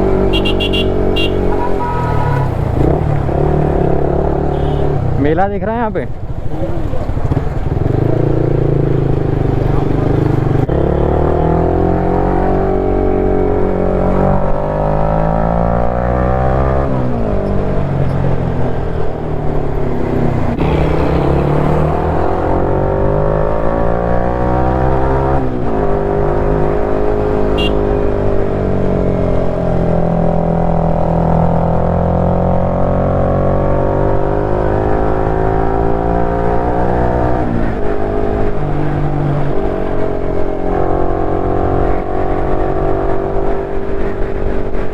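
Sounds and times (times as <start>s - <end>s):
motorcycle engine revving: 0.0s - 5.2s, 6.1s - 44.9s.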